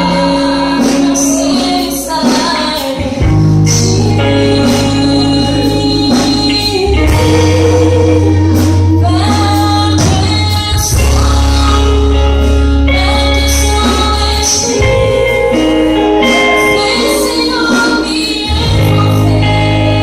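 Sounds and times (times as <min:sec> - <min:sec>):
band accompaniment: 0:00.0 - 0:20.0
choir singing gospel: 0:00.0 - 0:20.0.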